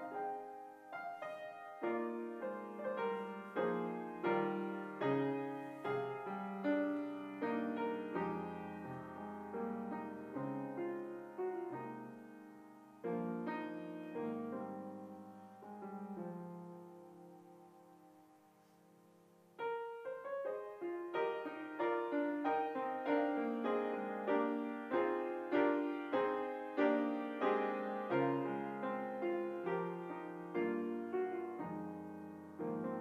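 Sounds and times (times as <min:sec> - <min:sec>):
piano playing slow chords: 0:00.0 - 0:33.0.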